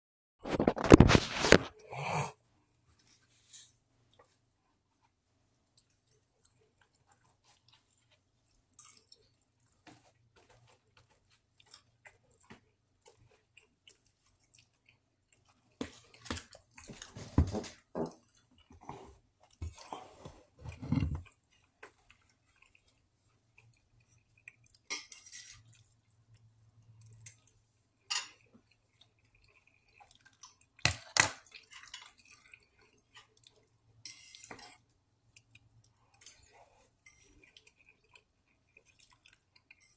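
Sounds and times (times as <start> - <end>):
person chewing: 5.0 - 16.9, 18.1 - 24.9, 25.5 - 39.9.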